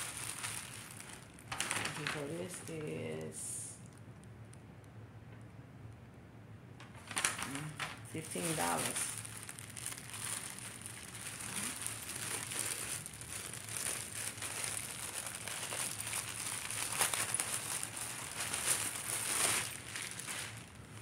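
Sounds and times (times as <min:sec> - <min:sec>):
plastic bag crinkling: 0:00.0 - 0:04.3, 0:06.9 - 0:21.0.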